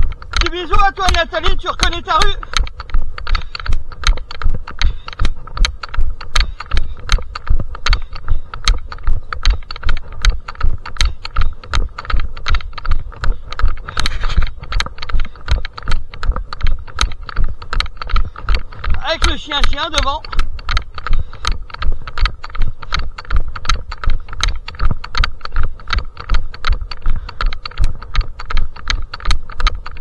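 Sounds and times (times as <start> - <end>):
camera knocking and rubbing in hand: 0.0 - 30.0
running footsteps on hard surface: 0.0 - 30.0.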